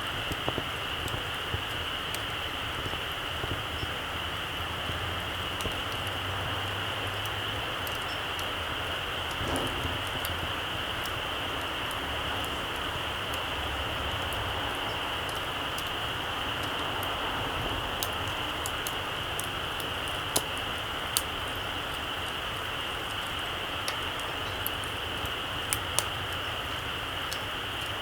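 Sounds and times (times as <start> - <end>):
small campfire hissing and crackling: 0.0 - 28.0.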